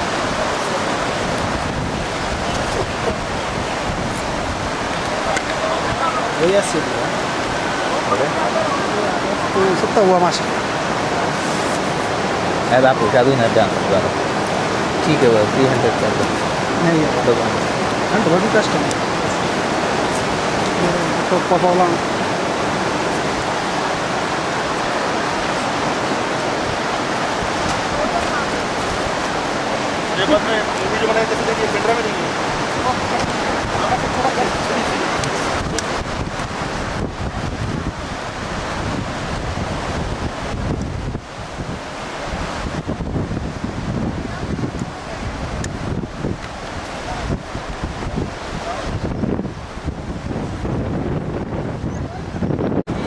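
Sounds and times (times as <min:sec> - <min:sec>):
whitewater river rapids rushing: 0:00.0 - 0:53.0
wind buffeting microphone: 0:00.0 - 0:53.0.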